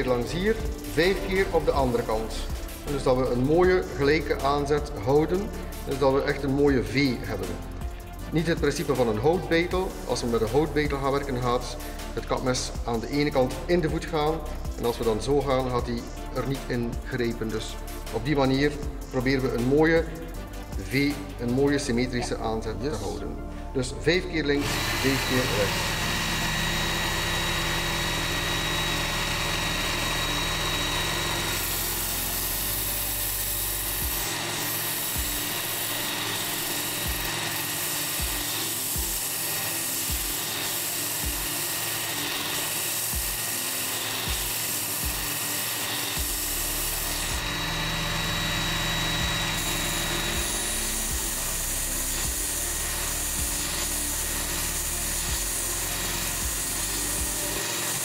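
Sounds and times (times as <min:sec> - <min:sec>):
belt sharpener motor whine: 0:00.0 - 0:16.6, 0:24.4 - 0:58.0
steel grinding on abrasive belt: 0:00.0 - 0:23.2, 0:24.1 - 0:58.0.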